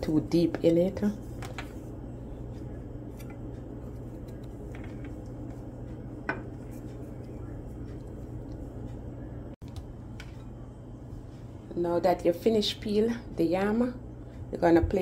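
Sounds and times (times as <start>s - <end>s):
low hum: 0.0s - 14.6s.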